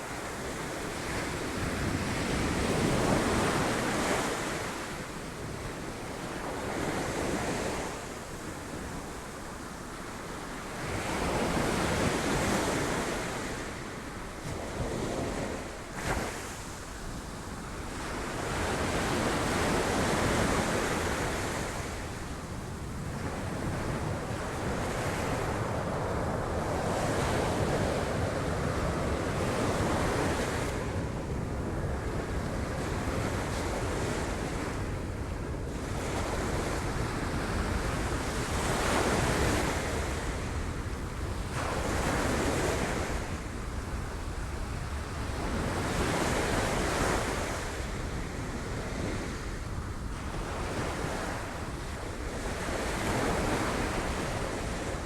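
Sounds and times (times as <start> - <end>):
wind buffeting microphone: 10.8 - 55.0.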